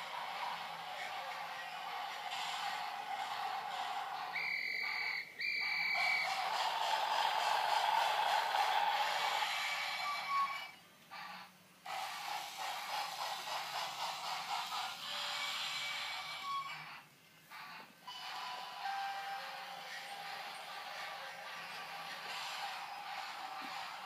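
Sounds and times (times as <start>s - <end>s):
toy train motors whirring: 0.0s - 24.0s.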